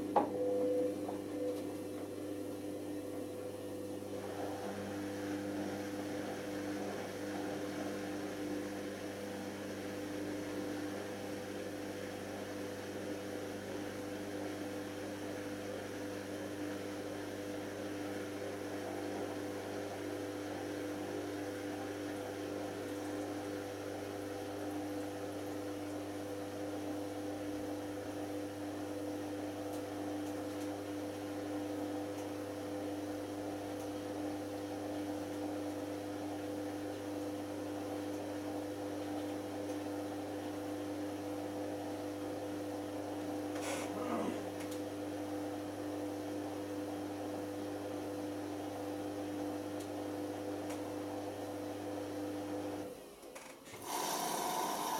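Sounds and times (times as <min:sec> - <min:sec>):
washing machine pump humming: 0:00.0 - 0:54.9.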